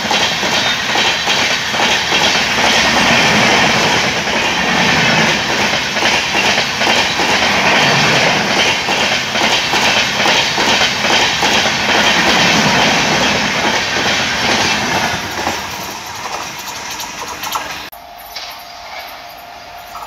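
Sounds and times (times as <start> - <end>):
wheels clattering over rail joints: 0.0 - 19.3
train rushing past: 0.0 - 20.0.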